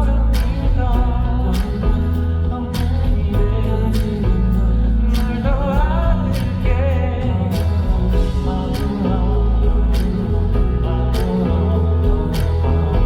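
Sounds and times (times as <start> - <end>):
live pop ballad by band: 0.0 - 13.0
person singing: 0.0 - 13.0.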